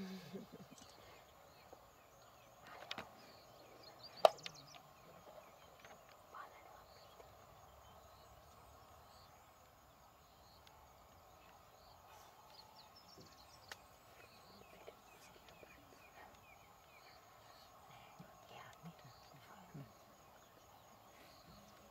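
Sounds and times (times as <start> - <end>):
soft bird chirps: 0.0 - 21.9.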